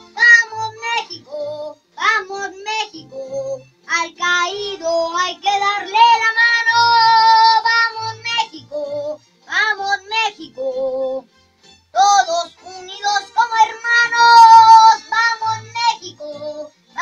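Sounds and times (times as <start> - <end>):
boy singing: 0.2 - 11.2, 12.0 - 17.0.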